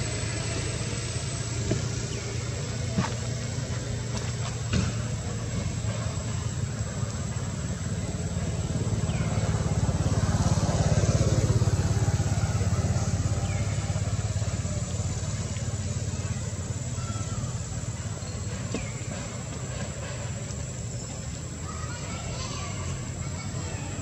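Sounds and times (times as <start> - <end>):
vehicle engine passing by: 0.0 - 24.0.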